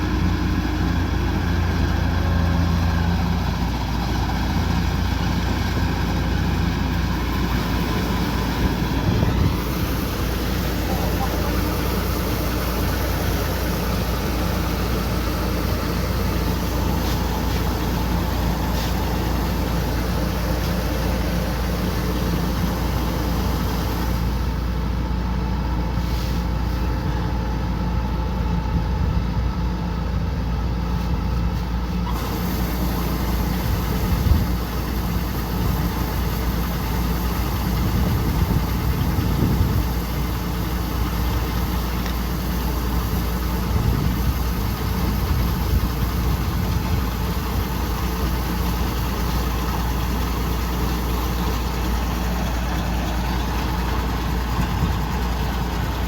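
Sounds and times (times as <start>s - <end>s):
combine harvester engine rumbling: 0.0s - 56.0s.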